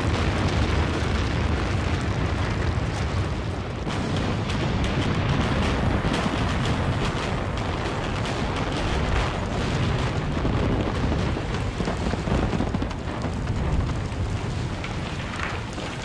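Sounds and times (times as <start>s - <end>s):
building collapsing rumble: 0.0s - 16.0s
sharp cracks and crackles: 0.0s - 16.0s.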